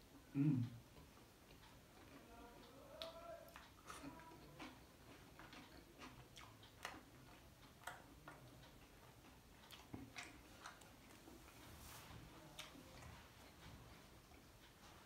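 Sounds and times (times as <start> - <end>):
person chewing with wet mouth clicks: 0.1 - 15.0.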